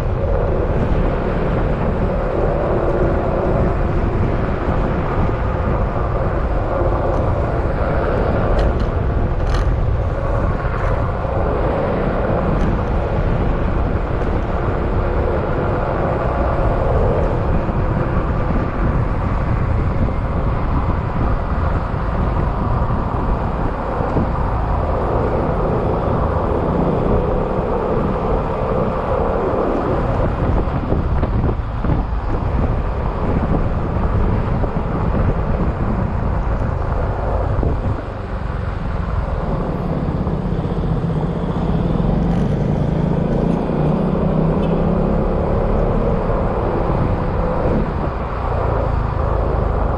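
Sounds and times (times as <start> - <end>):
road noise: 0.0 - 49.9
rushing wind: 0.0 - 49.9.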